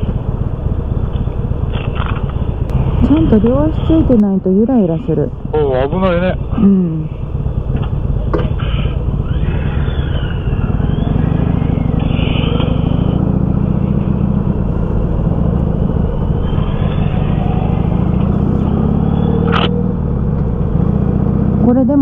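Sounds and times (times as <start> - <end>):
vehicle engine and road drone: 0.0 - 22.0.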